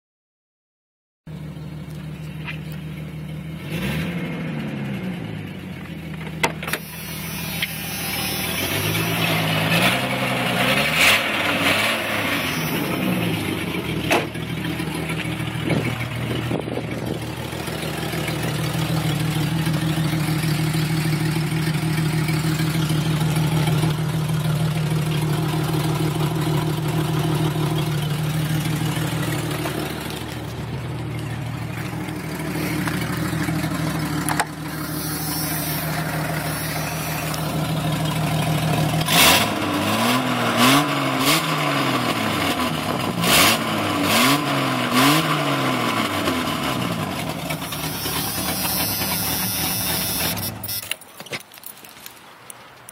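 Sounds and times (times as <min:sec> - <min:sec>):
car engine revving and idling: 0:01.3 - 0:50.8.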